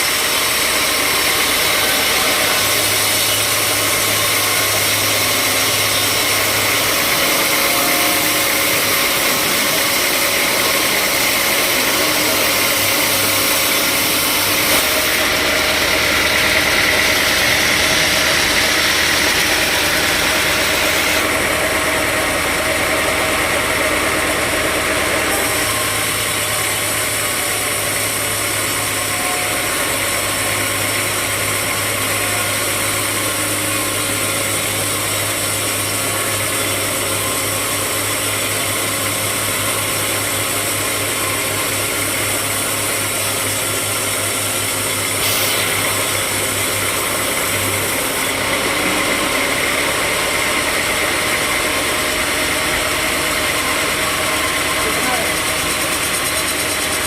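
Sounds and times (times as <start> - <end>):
low motor hum: 0.0 - 57.0
sawmill machinery running: 0.0 - 57.0.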